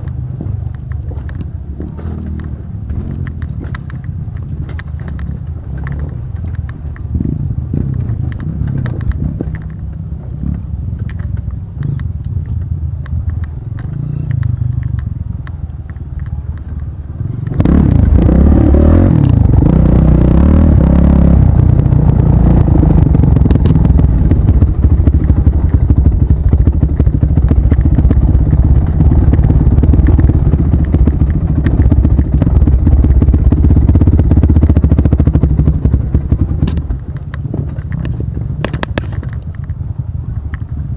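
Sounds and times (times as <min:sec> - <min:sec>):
off-road vehicle engines running: 0:00.0 - 0:40.9.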